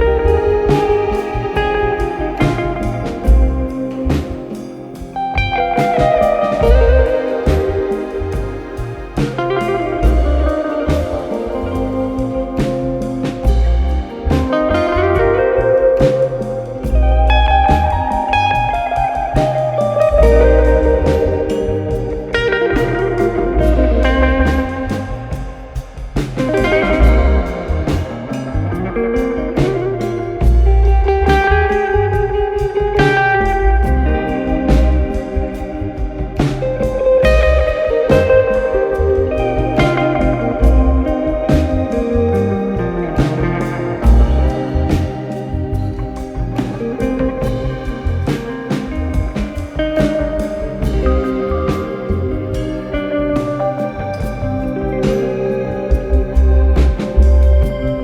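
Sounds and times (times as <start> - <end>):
guitar music with beat and bass: 0.0 - 58.0.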